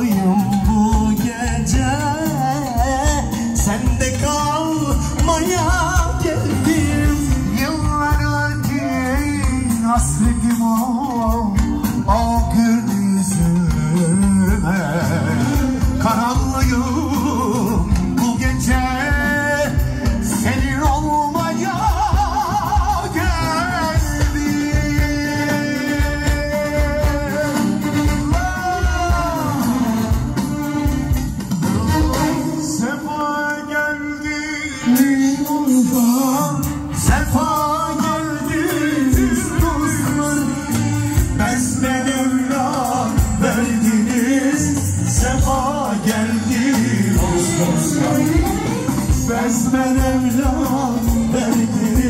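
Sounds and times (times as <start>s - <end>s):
steady drum beat: 0.0s - 33.3s, 34.9s - 52.0s
live band dance music: 0.0s - 52.0s
man singing into a microphone: 0.0s - 52.0s.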